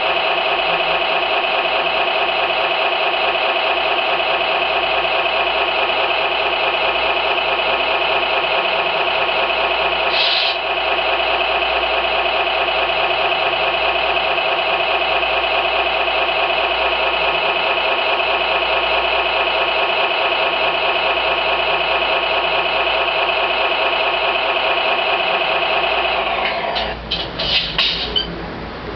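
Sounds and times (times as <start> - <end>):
simulated engine idle from speaker: 0.0 - 28.3.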